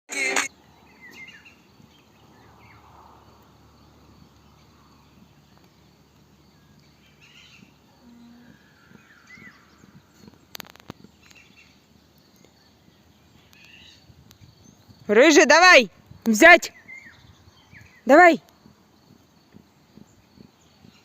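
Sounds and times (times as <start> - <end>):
bird chirps: 0.5 - 3.0, 3.8 - 15.0, 16.2 - 21.0.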